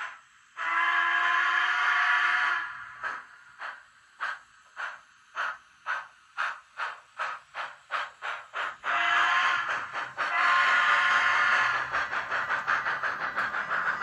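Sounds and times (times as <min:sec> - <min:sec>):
steady steam hiss: 0:00.0 - 0:14.0
steam locomotive exhaust chuffs: 0:00.0 - 0:14.0.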